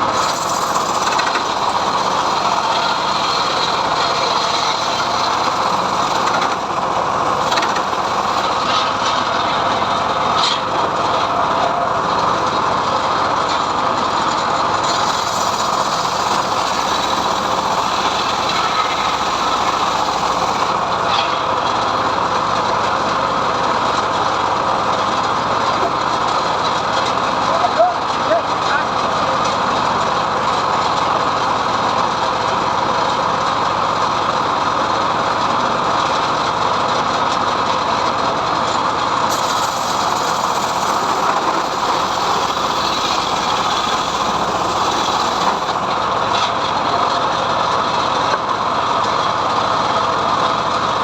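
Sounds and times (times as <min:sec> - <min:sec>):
sawmill cutting a log: 0:00.0 - 0:51.0.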